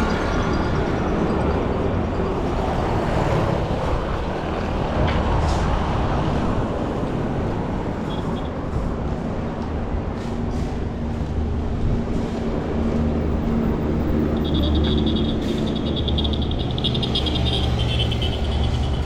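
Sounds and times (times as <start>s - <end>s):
passing vehicles rumble: 0.0s - 19.0s.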